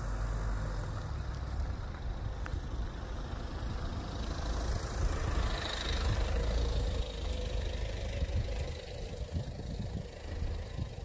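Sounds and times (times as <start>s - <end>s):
minivan driving past: 0.0s - 11.0s.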